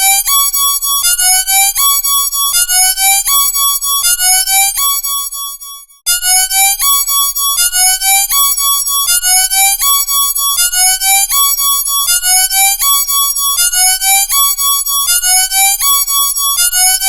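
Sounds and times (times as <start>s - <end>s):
electronic alarm siren: 0.0s - 17.0s.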